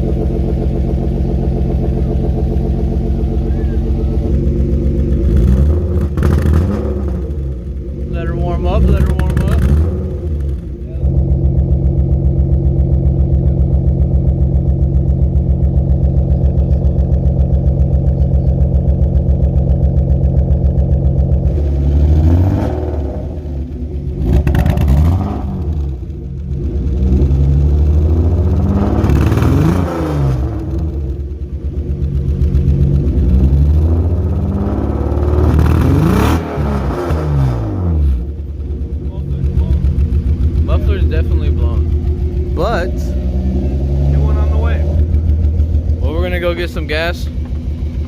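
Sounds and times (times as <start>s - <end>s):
car engine idling: 0.0s - 48.0s
car engine revving: 0.0s - 48.0s.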